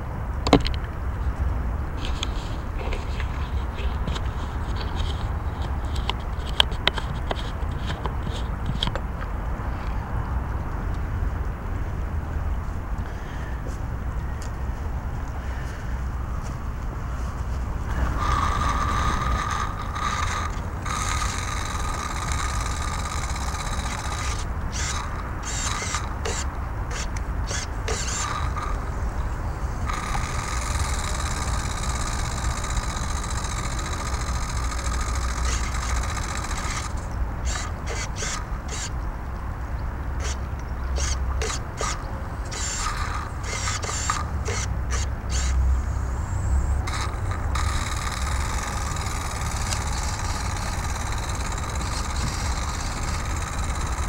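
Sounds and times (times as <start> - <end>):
steady low rumble: 8.1 - 54.0.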